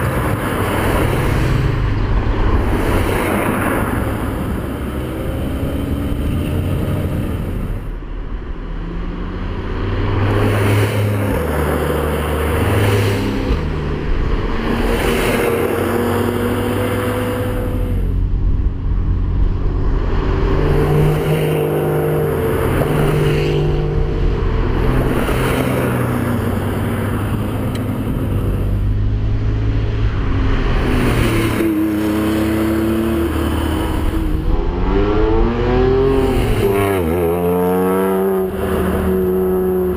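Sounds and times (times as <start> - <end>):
sports car engines revving: 0.0 - 39.9.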